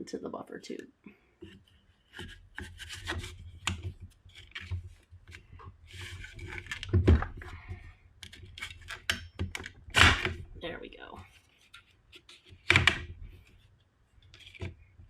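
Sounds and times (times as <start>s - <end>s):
plastic scraping and clicking: 1.4s - 10.5s, 11.3s - 15.0s.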